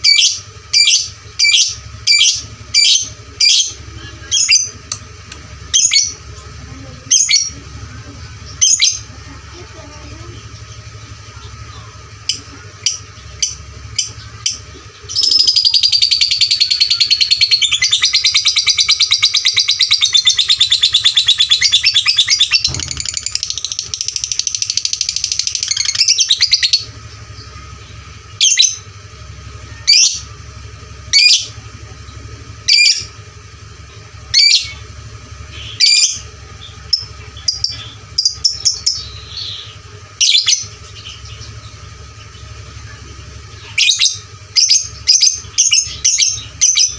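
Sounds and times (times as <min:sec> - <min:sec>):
lovebird chirping and trilling: 0:00.0 - 0:33.2, 0:33.9 - 0:46.9.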